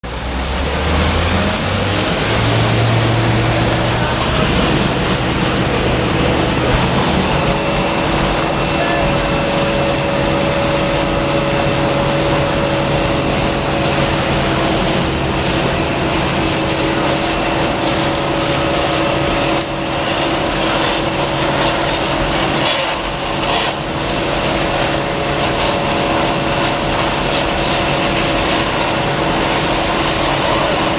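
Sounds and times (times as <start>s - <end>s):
high whine: 0.0s - 30.9s
truck engine and vacuum blower: 0.0s - 30.9s.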